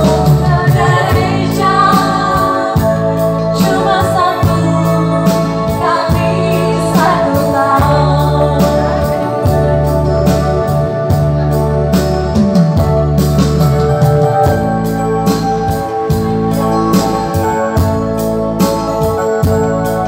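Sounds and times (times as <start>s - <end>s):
electronic keyboard music: 0.0s - 20.0s.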